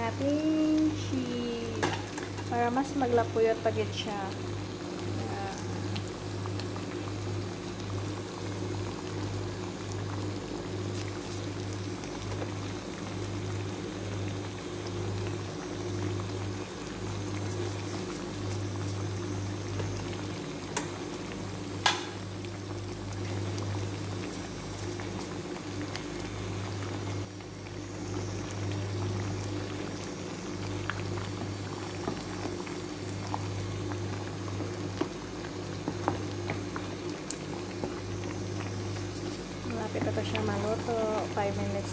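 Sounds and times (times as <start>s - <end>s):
sauce bubbling in a pot: 0.0s - 41.9s
steady low hum: 0.0s - 41.9s.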